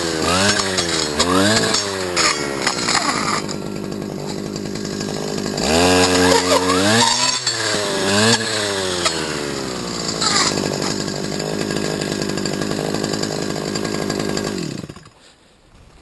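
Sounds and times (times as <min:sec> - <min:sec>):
brushcutter engine revving: 0:00.0 - 0:15.2.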